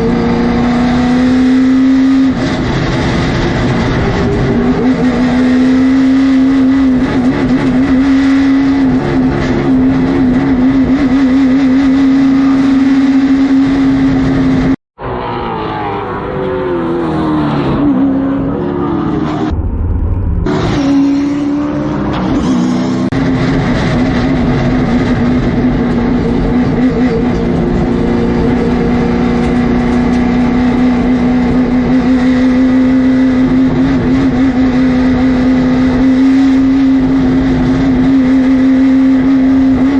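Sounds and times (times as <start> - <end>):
race car engine at high revs: 0.0 - 19.6, 20.4 - 39.9.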